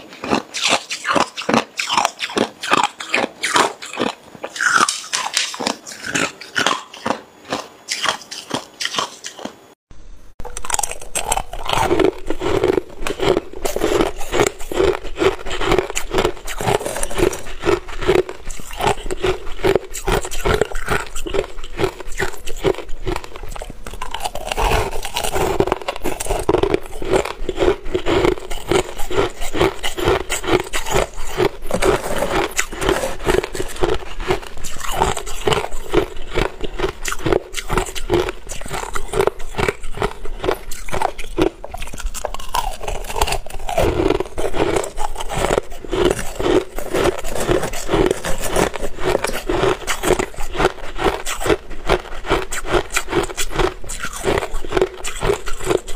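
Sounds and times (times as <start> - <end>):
crushed ice being chewed: 0.0 - 9.7, 10.4 - 55.9
metal spoon scraping ice: 10.9 - 55.9.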